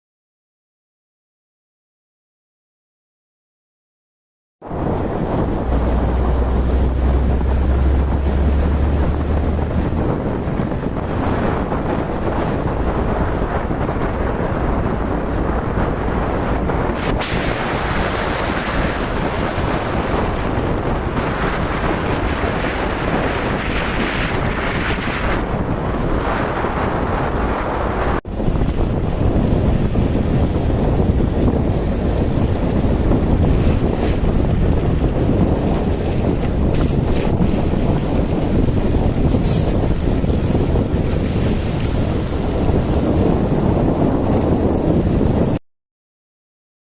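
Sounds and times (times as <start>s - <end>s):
wind buffeting microphone: 4.6s - 45.6s.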